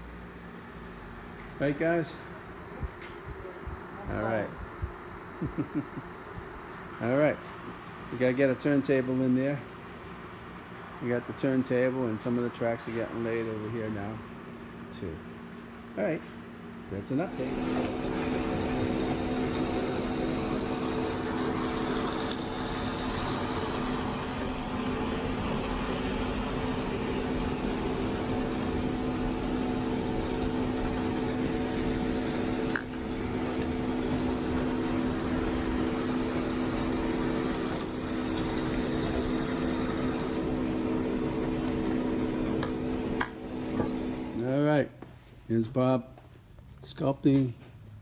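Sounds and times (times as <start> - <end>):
machine humming: 0.0 - 44.8.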